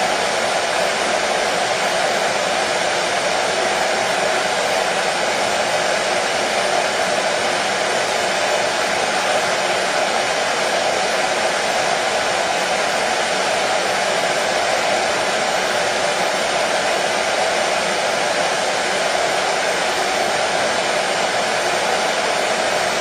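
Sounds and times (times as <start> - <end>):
hair dryer running: 0.0 - 23.0.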